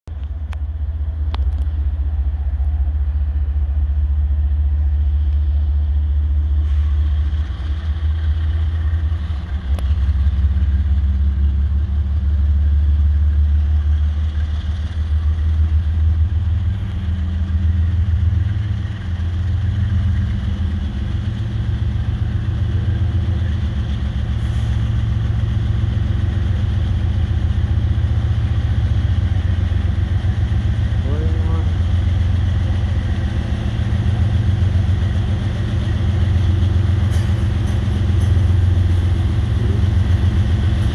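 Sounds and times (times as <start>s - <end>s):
locomotive engine rumble: 0.1s - 40.9s.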